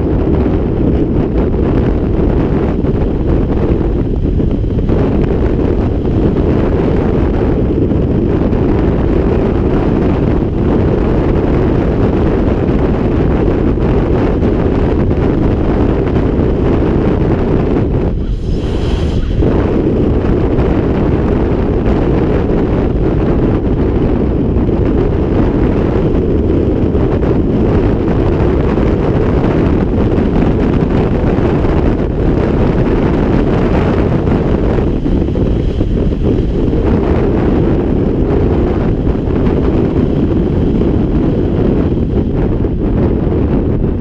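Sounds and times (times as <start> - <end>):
wind rush on microphone: 0.0 - 44.0.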